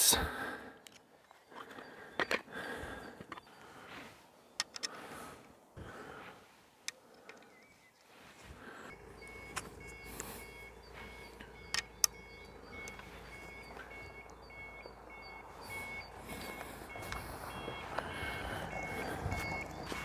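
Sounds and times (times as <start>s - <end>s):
reversing alarm beeping: 0.0s - 5.3s, 8.6s - 20.0s
low engine rumble: 0.1s - 20.0s.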